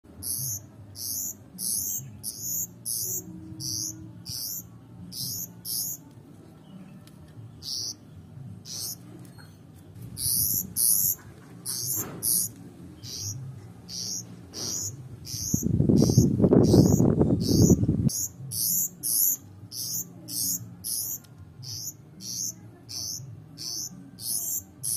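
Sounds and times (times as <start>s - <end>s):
bird chirping high: 0.2s - 6.0s, 7.6s - 8.0s, 8.6s - 9.6s, 10.2s - 24.9s.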